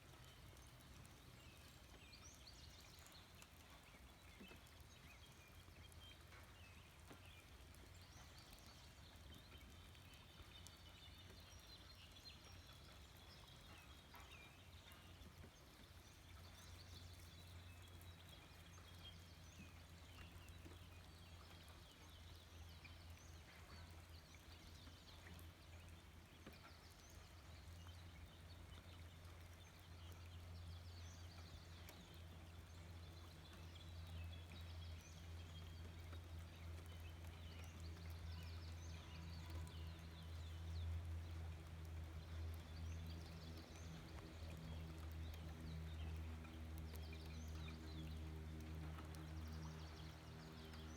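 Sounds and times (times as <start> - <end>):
faint birds chirping: 0.1 - 50.9.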